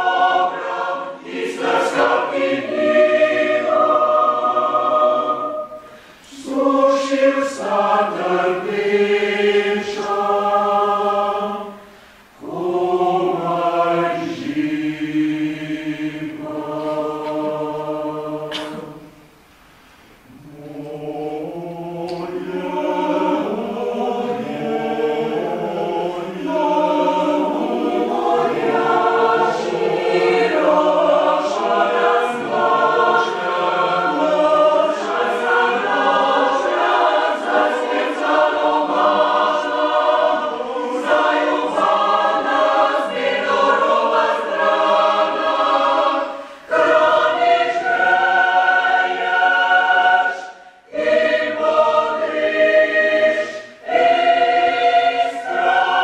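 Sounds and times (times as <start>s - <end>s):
mixed choir singing: 0.0s - 19.4s, 20.2s - 56.0s.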